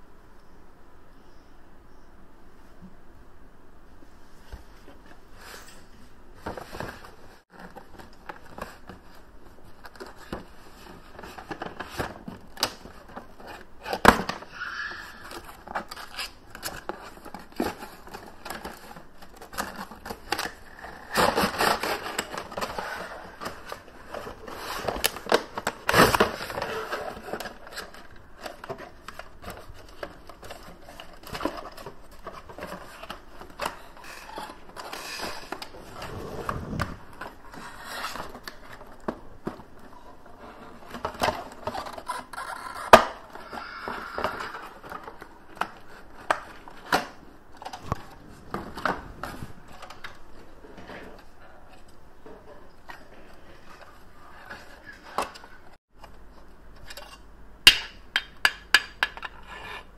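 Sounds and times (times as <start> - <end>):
cardboard and plastic rustling: 4.2 - 14.5, 15.2 - 56.4.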